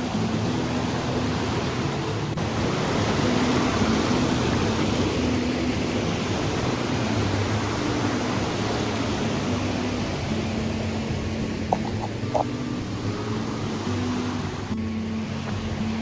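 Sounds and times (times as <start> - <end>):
waterfall roar: 0.0 - 16.0.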